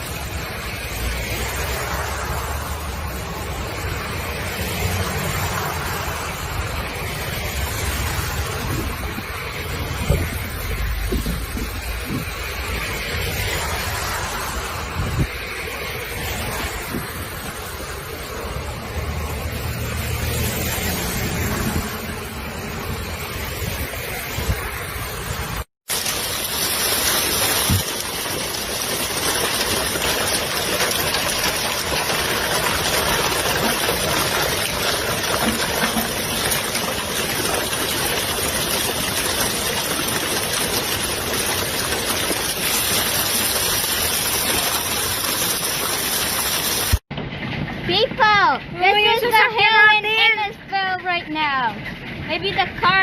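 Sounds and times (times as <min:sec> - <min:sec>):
heavy hail pelting down: 0:00.0 - 0:53.0.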